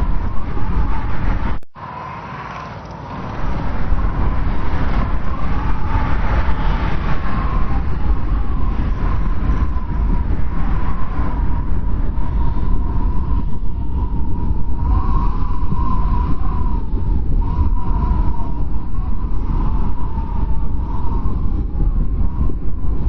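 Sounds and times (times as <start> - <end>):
strong wind with whistle: 0.0 - 23.0.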